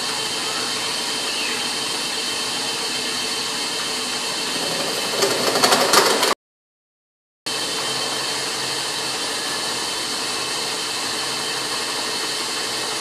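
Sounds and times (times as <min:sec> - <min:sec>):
lathe machine hum: 0:00.0 - 0:06.4, 0:07.5 - 0:13.0.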